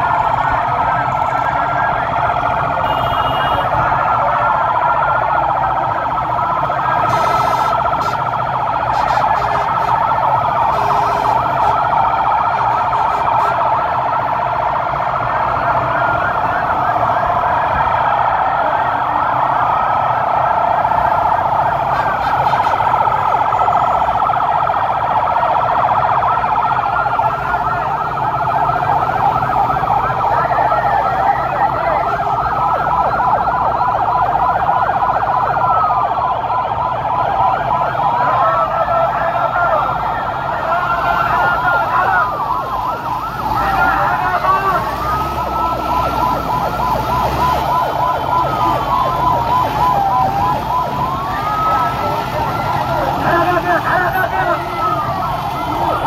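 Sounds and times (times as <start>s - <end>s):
vehicle sirens wailing and yelping: 0.0s - 56.0s.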